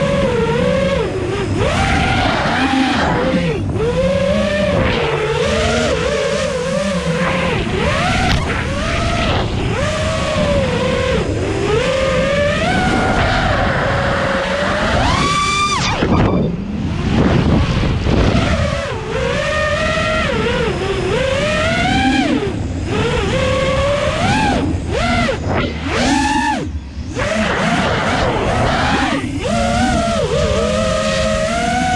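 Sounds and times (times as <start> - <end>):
drone motors whining: 0.0 - 31.9
wind rushing over microphone: 0.0 - 31.9.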